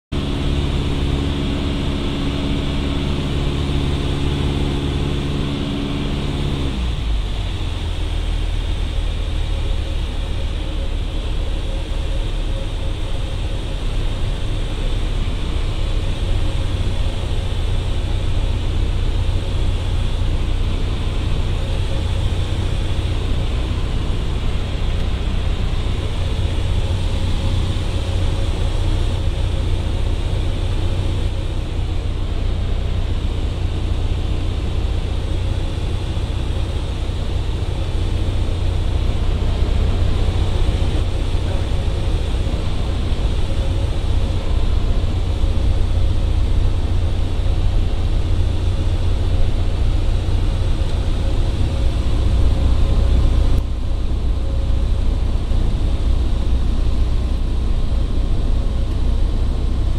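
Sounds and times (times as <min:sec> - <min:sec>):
light aircraft engine: 0:00.1 - 0:59.9
steady wind noise: 0:00.1 - 0:59.9.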